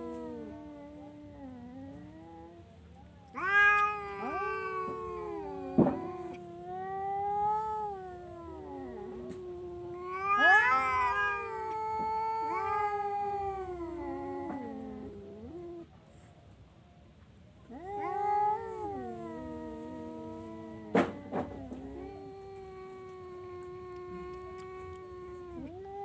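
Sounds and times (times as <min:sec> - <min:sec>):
cat yowling: 0:00.0 - 0:15.9, 0:17.7 - 0:26.0.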